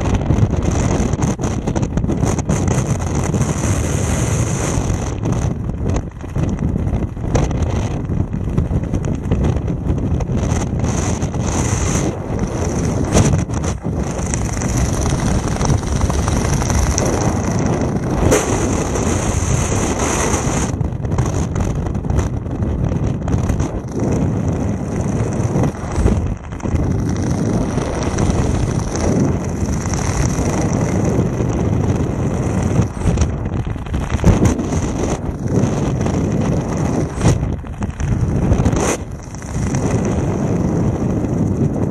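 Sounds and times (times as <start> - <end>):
wind rumble on microphone: 0.0 - 41.9.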